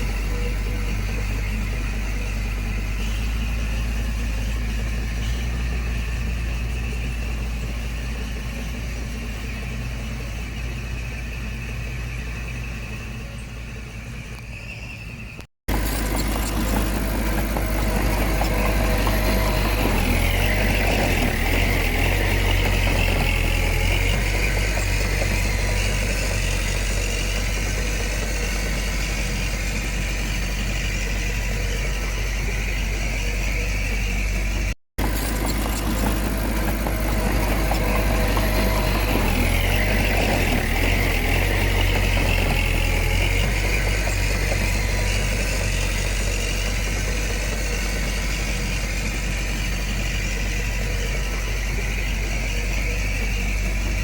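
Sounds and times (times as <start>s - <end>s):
heavy machinery diesel engine: 0.0s - 54.0s
high whining squeal: 0.0s - 54.0s.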